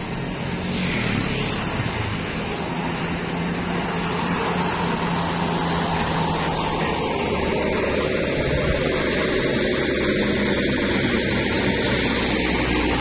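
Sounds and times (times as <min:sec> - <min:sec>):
coach diesel engine passing: 0:00.0 - 0:13.0
road noise: 0:00.0 - 0:13.0.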